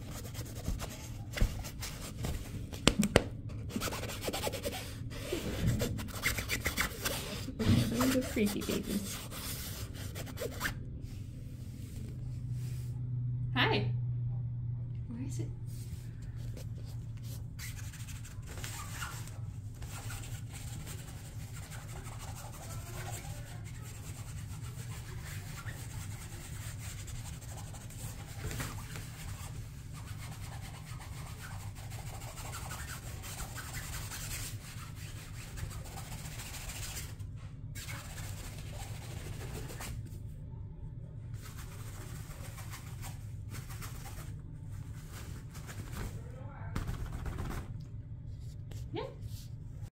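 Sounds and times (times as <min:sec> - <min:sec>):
rubbing and rustling: 0:00.0 - 0:13.0, 0:15.6 - 0:40.3, 0:41.3 - 0:49.9
steady low hum: 0:00.0 - 0:49.9.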